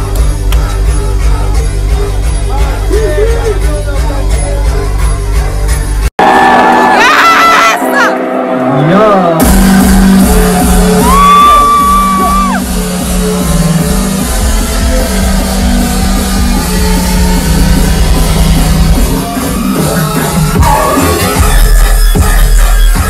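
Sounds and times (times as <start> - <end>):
electronic dance music: 0.0 - 23.0.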